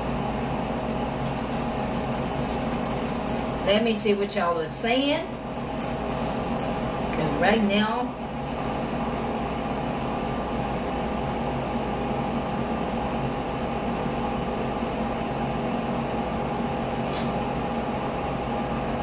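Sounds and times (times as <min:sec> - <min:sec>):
appliance humming: 0:00.0 - 0:19.0.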